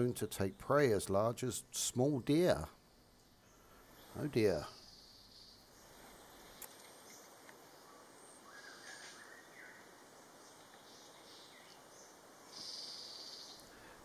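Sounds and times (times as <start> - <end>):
distant bird calls: 2.3 - 14.0.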